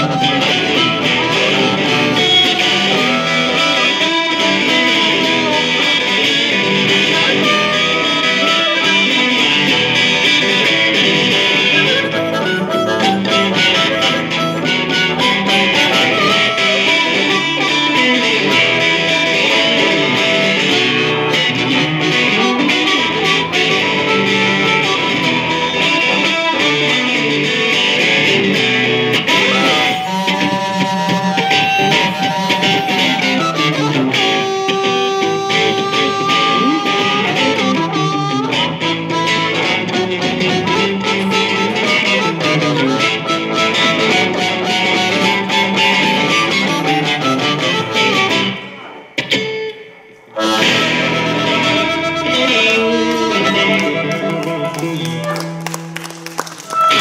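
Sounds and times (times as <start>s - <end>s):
blues harmonica bending notes: 0.0s - 57.0s
electric guitar playing: 0.0s - 57.0s.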